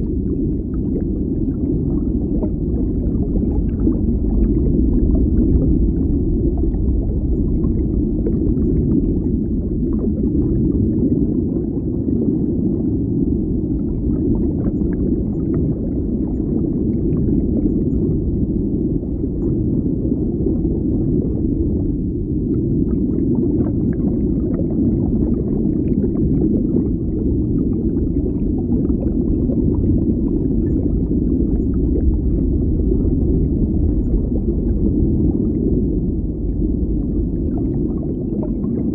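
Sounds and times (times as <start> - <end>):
deep underwater rumble: 0.0 - 38.9.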